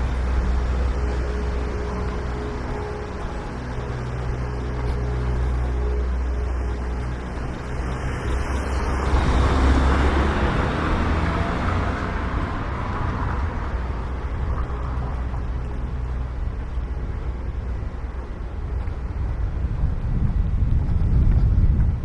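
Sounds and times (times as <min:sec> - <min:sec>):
vehicle passing: 0:00.0 - 0:19.1
vehicle engine running: 0:00.0 - 0:22.0.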